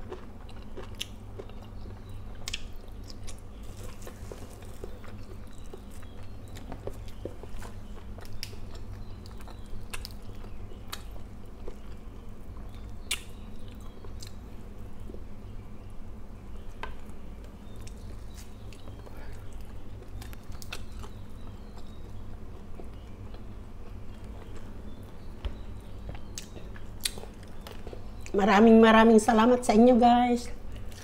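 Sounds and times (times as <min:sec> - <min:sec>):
person chewing: 0:00.0 - 0:14.4, 0:17.6 - 0:28.3, 0:30.7 - 0:31.0
low steady hum: 0:00.0 - 0:31.0.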